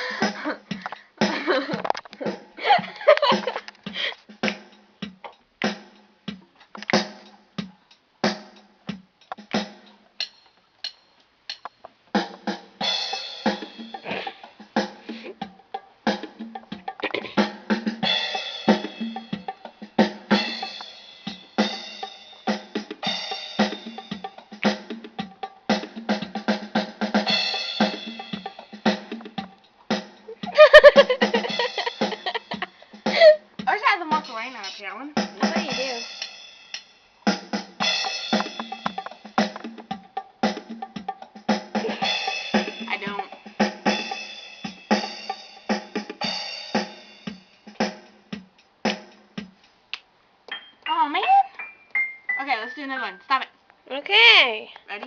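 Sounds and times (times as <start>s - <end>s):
drum machine rhythm: 0.0s - 49.8s, 50.5s - 53.4s.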